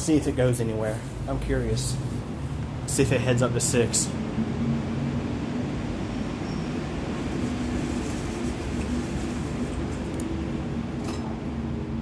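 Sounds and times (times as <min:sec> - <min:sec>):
mechanical rumble with low hum: 0:00.0 - 0:12.0.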